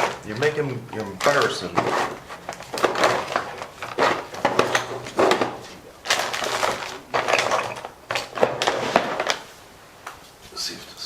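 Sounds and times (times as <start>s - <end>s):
small hard objects clattering: 0.0s - 9.5s.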